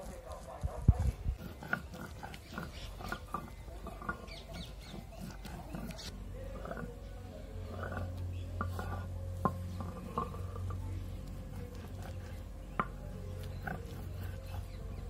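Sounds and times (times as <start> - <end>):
steady low hum: 0.0 - 15.0
stone scraping on stone: 1.4 - 7.0, 7.6 - 15.0.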